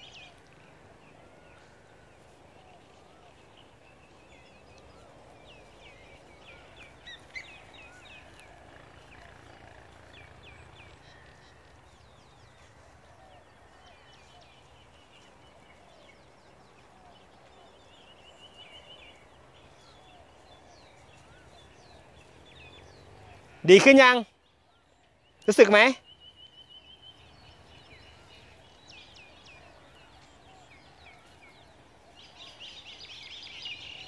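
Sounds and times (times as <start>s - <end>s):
small birds chirping: 0.0s - 34.0s
steady background hiss: 0.0s - 34.0s.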